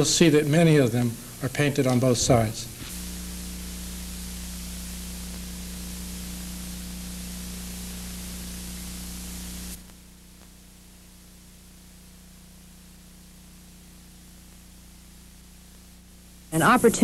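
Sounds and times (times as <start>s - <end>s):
low electrical hum: 0.0s - 17.0s
videotape hiss: 0.0s - 17.0s.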